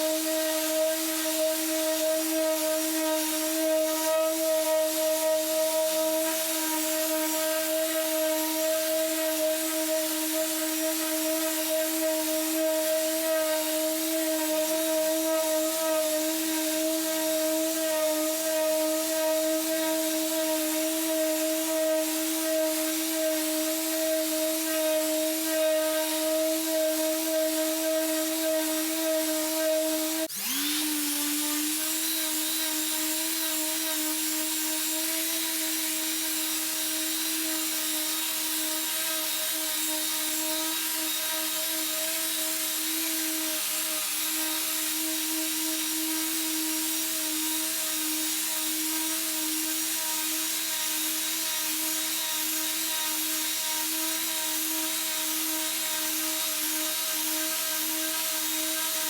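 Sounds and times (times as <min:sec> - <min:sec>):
electric power tool motor whine: 0:00.0 - 0:59.0.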